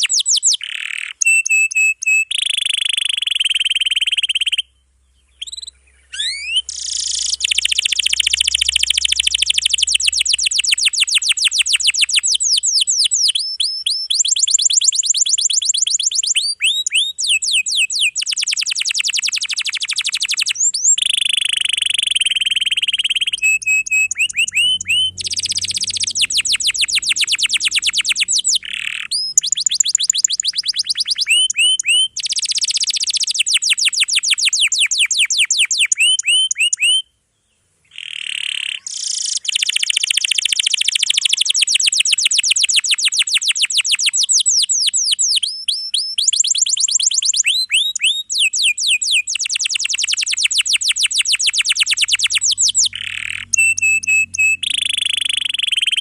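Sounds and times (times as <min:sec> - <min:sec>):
canary singing rolled trills: 0:00.0 - 0:56.0.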